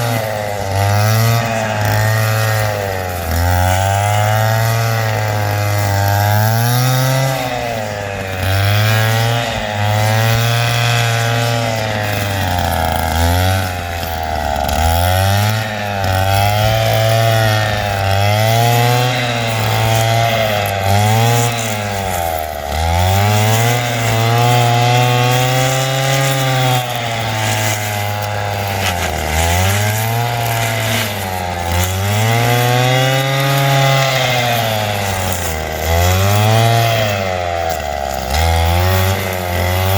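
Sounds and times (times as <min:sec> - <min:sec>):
brushcutter engine running hard: 0:00.0 - 0:39.9.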